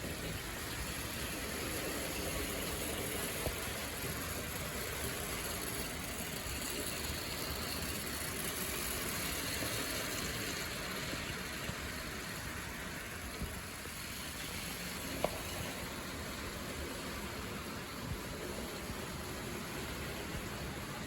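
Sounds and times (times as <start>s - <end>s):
toy train motor whirring: 0.0s - 20.9s.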